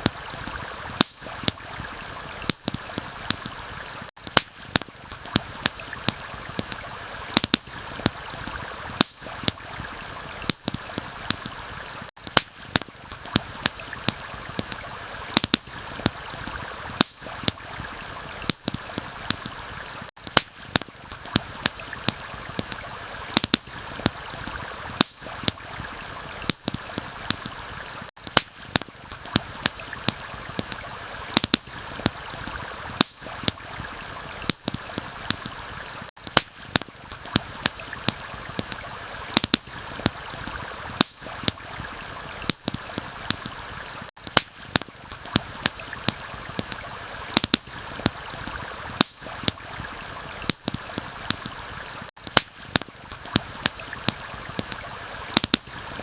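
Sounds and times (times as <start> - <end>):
campfire crackling and popping: 0.0 - 56.0
stream water rushing: 0.0 - 56.0.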